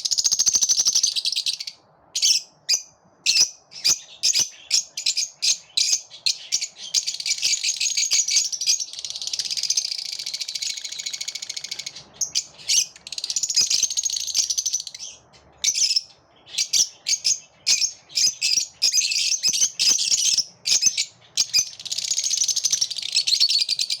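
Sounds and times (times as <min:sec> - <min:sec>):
lovebirds chirping and chattering: 0:00.0 - 0:24.0.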